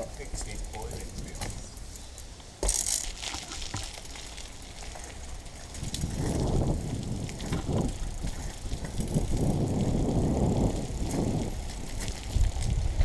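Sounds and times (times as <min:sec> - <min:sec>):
bicycle riding rumble: 0:00.0 - 0:13.0.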